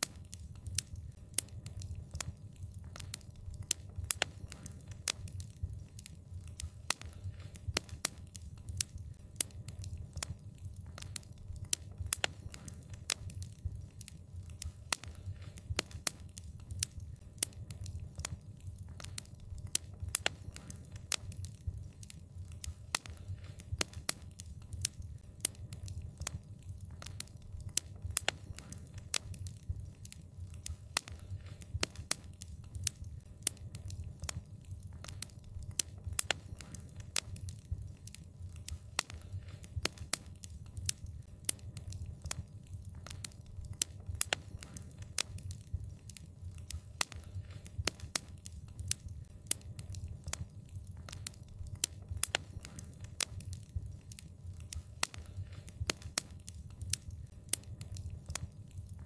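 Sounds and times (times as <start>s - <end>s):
low rumble of burning fire: 0.0s - 59.0s
wood fire crackling and popping: 0.0s - 59.0s.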